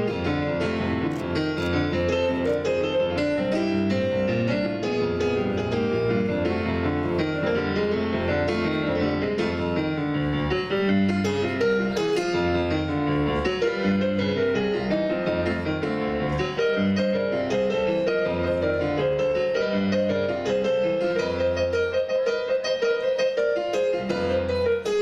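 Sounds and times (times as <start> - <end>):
solo piano playing: 0.0 - 25.0.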